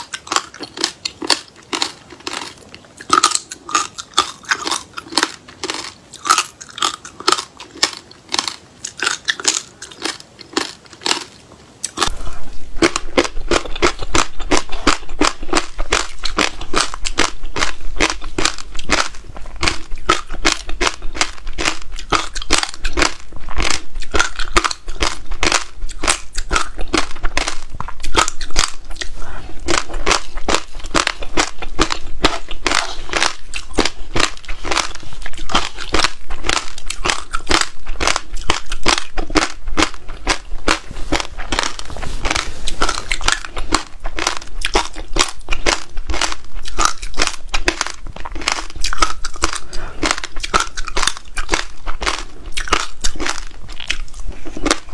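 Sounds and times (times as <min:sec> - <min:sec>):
crunchy chewing: 0:00.0 - 0:54.9.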